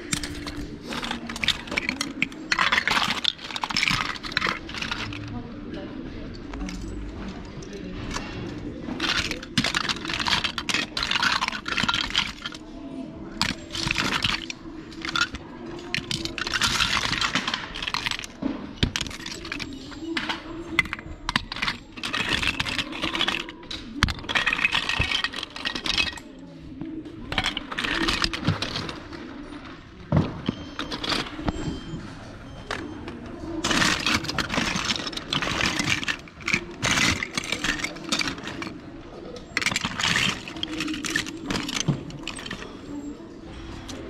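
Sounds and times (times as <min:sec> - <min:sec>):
plastic toy parts clattering: 0:00.0 - 0:44.0.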